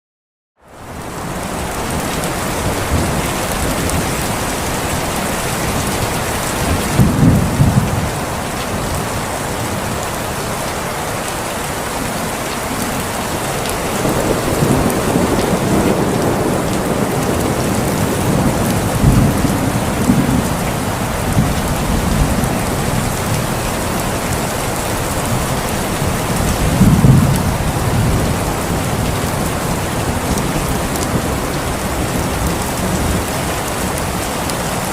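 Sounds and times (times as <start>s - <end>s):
steady rain falling: 0.6s - 34.9s
low thunder rumbles: 1.6s - 10.0s, 13.3s - 34.9s.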